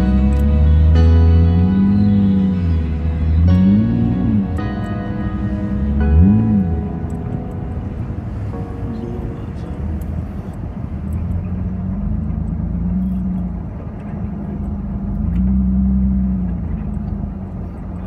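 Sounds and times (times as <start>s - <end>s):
car engine: 0.0s - 18.0s
road rumble: 0.0s - 18.0s.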